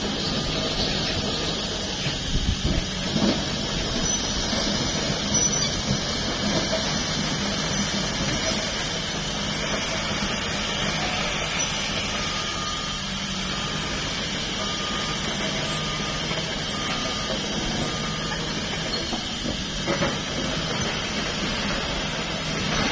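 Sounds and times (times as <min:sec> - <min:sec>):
diesel roller engine running: 0:00.0 - 0:22.9.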